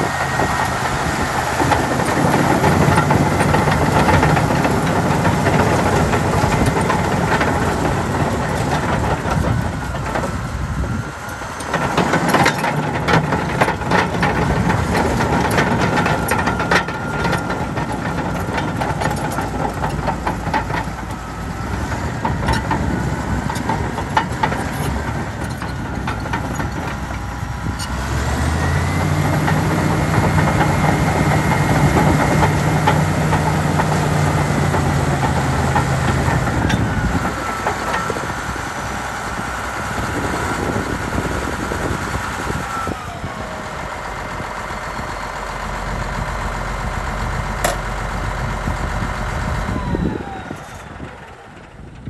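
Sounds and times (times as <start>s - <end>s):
diesel dozer engine running: 0.0s - 52.0s.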